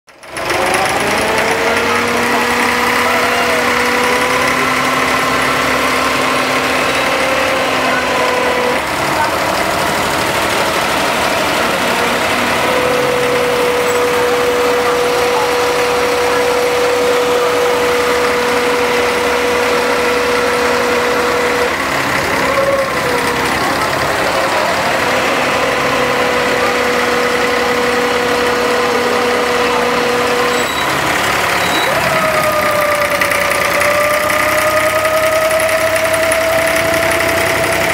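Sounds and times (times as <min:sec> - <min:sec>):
boat engine hum: 0:00.1 - 0:37.9
steady high tone: 0:00.8 - 0:37.9.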